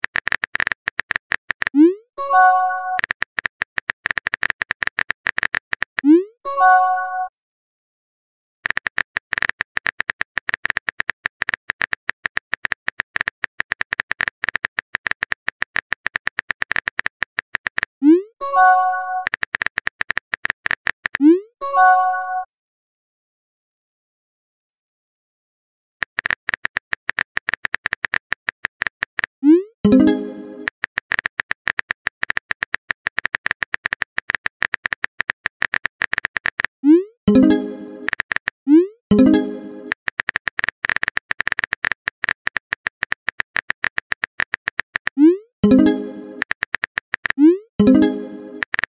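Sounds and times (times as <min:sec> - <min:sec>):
phone keyboard typing clicks: 0:00.0 - 0:06.1, 0:08.6 - 0:18.0, 0:18.6 - 0:21.2, 0:26.0 - 0:48.9.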